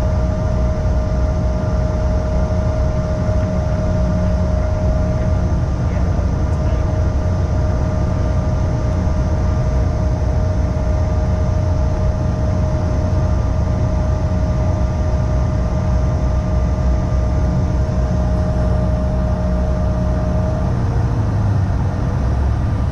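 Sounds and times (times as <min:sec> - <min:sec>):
jet engine low rumble: 0:00.0 - 0:22.9
steady whine: 0:00.0 - 0:22.9.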